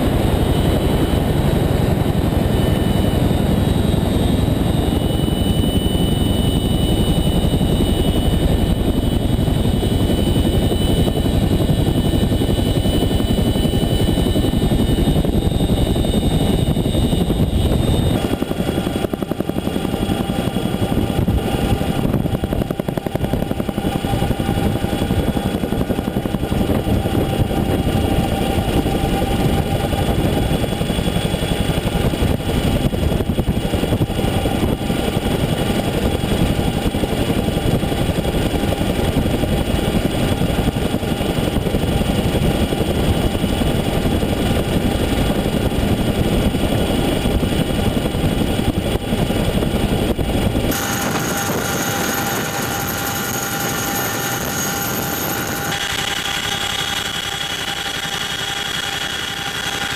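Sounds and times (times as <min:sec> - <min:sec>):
helicopter rotor and turbine noise: 0:00.0 - 0:59.9
thin steady whines: 0:00.0 - 0:59.9.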